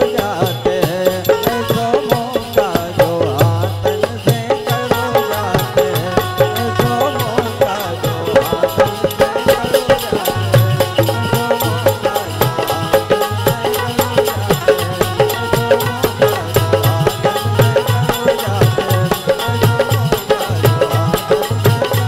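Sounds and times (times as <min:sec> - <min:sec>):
harmonium melody: 0:00.0 - 0:22.0
jingling percussion: 0:00.0 - 0:22.0
tabla and dholak beat: 0:00.0 - 0:22.0.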